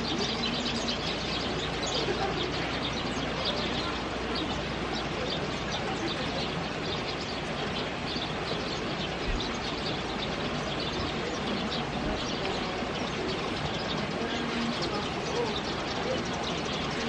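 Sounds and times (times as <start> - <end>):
birds chirping: 0.0 - 17.0
river flowing: 0.0 - 17.0.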